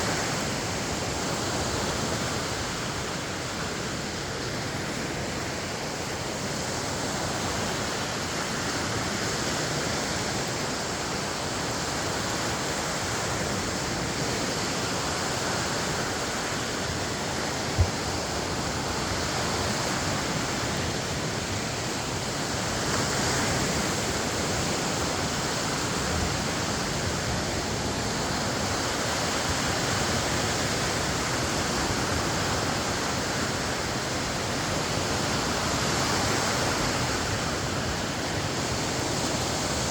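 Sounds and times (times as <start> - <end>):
waves washing on shore: 0.0 - 39.9.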